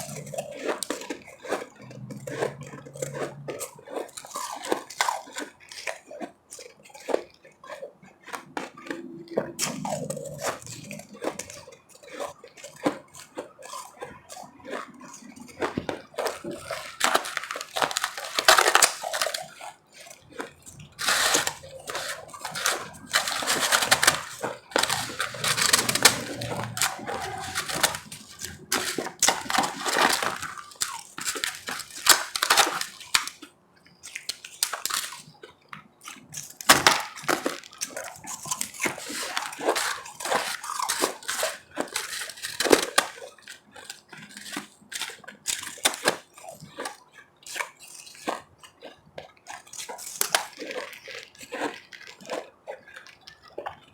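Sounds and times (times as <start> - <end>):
ice crunching being chewed: 0.0 - 53.9.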